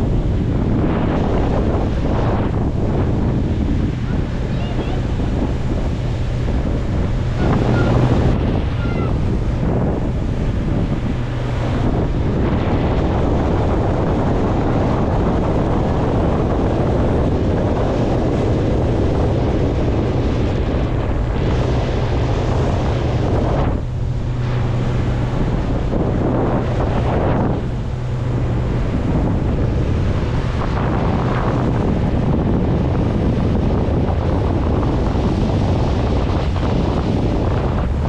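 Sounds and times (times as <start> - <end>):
motorboat engine drone: 0.0 - 38.0
water rushing past hull: 0.0 - 38.0
wind buffeting microphone: 0.0 - 38.0.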